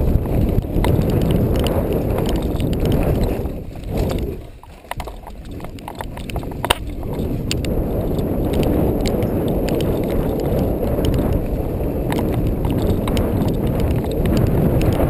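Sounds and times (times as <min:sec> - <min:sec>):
bike clicks and rattles: 0:00.0 - 0:15.0
tyres and wind rumble: 0:00.0 - 0:15.0.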